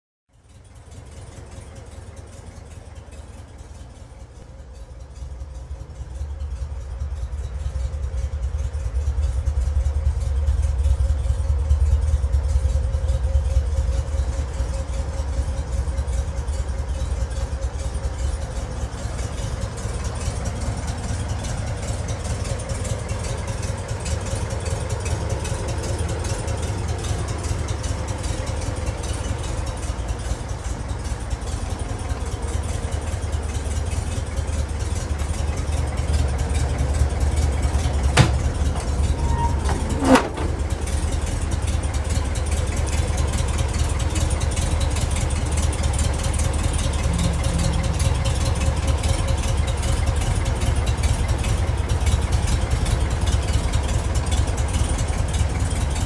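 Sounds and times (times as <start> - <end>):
engine idling: 0.3 - 56.0.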